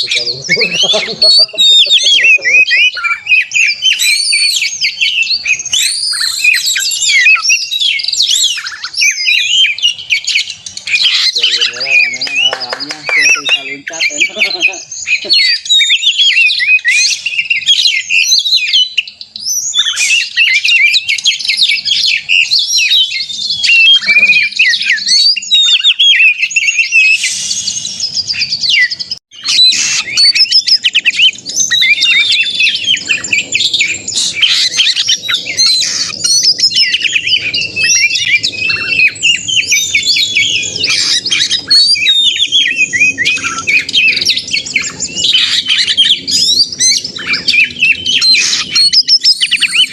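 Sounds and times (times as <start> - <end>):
songbird singing whistled phrases: 0.0 - 49.9.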